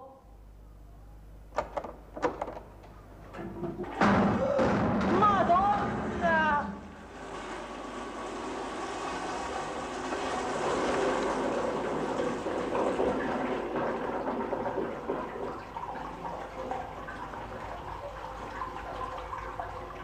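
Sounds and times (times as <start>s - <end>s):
toilet flushing: 3.2s - 20.0s.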